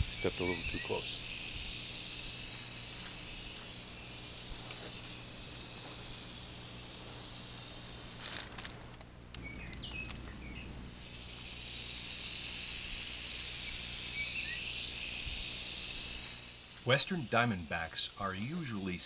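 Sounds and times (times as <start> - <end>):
rattlesnake tail rattle buzzing: 0.0 - 19.0.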